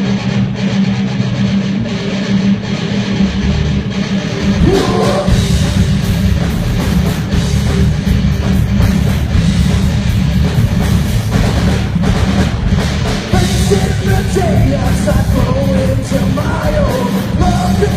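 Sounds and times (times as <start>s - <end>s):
heavy rock band playing: 0.0s - 17.9s.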